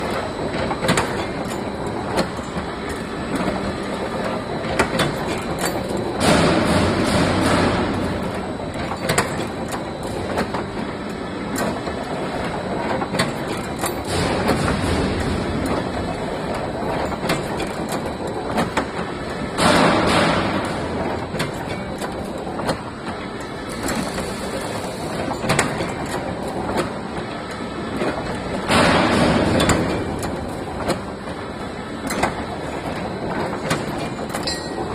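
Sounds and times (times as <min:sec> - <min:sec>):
machine clattering: 0:00.0 - 0:34.9
sharp clicks and knocks: 0:00.1 - 0:03.6, 0:04.2 - 0:10.8, 0:12.9 - 0:24.3, 0:25.2 - 0:31.4, 0:32.0 - 0:34.9.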